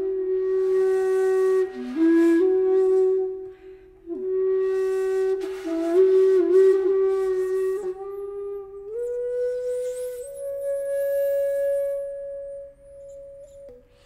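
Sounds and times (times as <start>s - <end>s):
solo flute playing slow notes: 0.0s - 14.0s.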